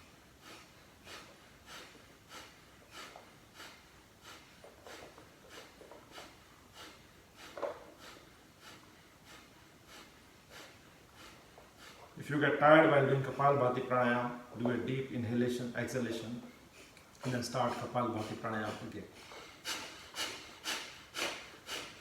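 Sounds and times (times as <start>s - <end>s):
forceful exhalations through nose: 0.0s - 12.2s, 16.5s - 22.0s.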